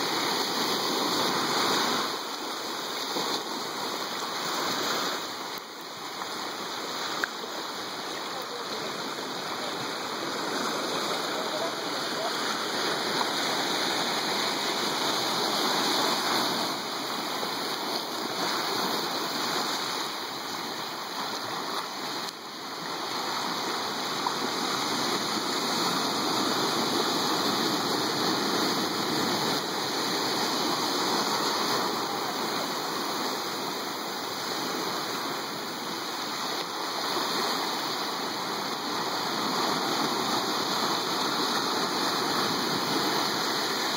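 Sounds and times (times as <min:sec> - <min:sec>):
ocean surf on rocky shore: 0:00.0 - 0:43.9.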